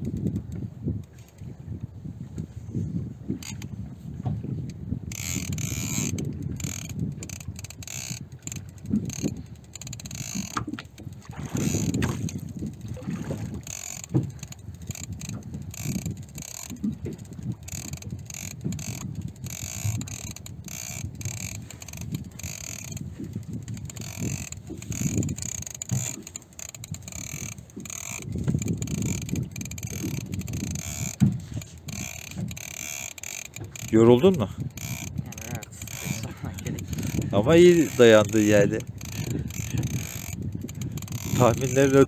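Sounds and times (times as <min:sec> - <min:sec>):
fishing reel clicking: 0:00.0 - 0:01.5, 0:03.3 - 0:03.8, 0:04.6 - 0:42.0
wind and water rushing: 0:03.4 - 0:42.0.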